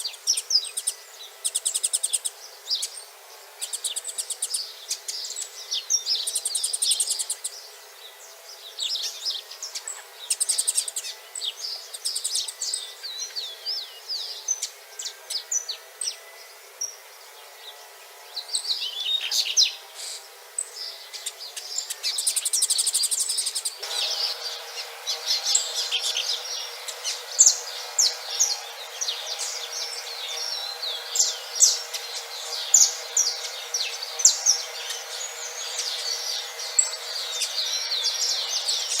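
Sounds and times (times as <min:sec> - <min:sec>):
bird singing chirps and trills: 0:00.0 - 0:39.0.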